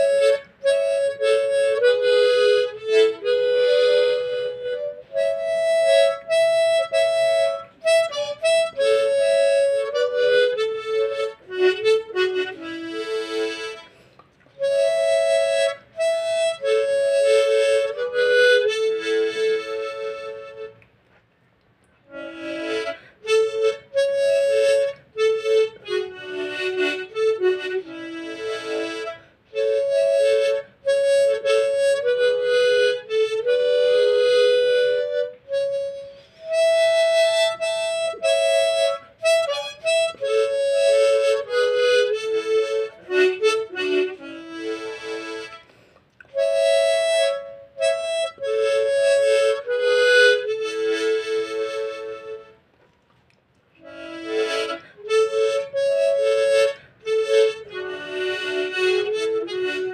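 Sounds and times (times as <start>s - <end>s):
harmonica melody: 0.0s - 20.9s, 22.0s - 52.8s, 53.8s - 59.9s.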